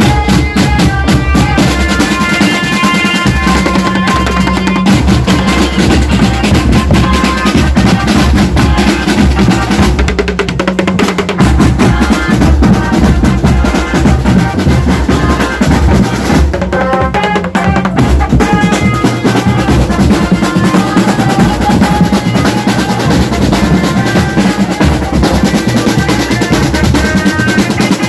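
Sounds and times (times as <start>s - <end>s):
pitched instrument notes: 0.0s - 10.2s, 11.3s - 28.0s
bass drums: 0.0s - 28.0s
snare drum rolls: 0.0s - 28.0s.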